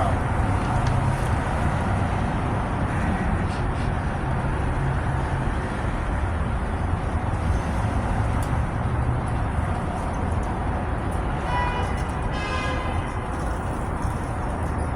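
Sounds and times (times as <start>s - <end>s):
vehicle engine rumbling: 0.0s - 14.9s.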